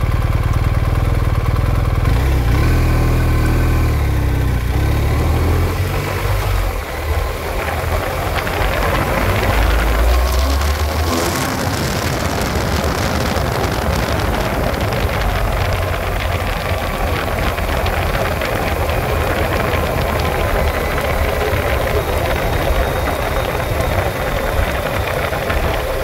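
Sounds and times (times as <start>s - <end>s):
motorcycle engine running: 0.0s - 26.0s
wind noise: 2.1s - 26.0s.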